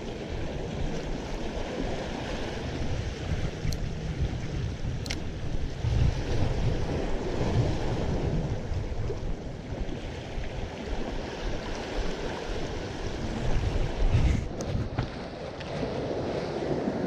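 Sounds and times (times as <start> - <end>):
ocean surf washing in: 0.0 - 17.0
wind buffeting microphone: 0.0 - 17.0.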